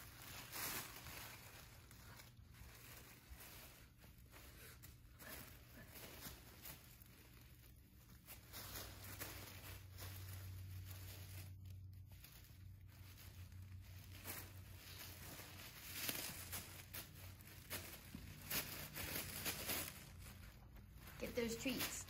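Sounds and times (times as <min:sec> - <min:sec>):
faint low hum: 0:00.0 - 0:22.0
tissue paper rustling: 0:00.0 - 0:22.0.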